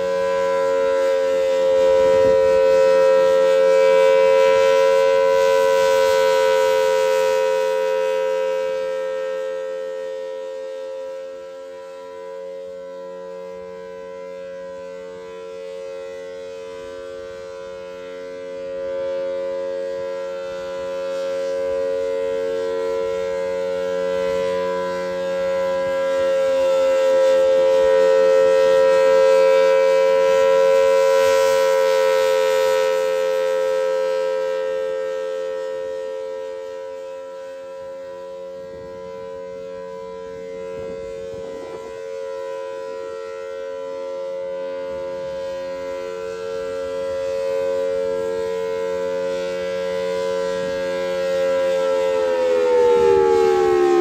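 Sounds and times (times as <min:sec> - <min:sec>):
warning siren alert tone: 0:00.0 - 0:54.0.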